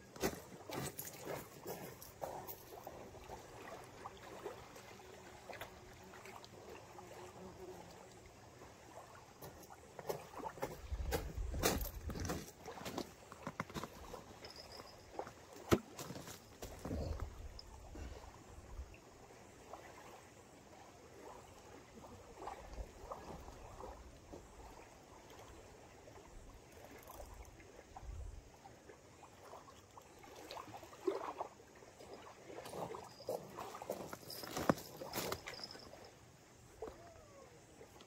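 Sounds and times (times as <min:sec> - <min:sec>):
small waves lapping on shingle: 0:00.0 - 0:38.0.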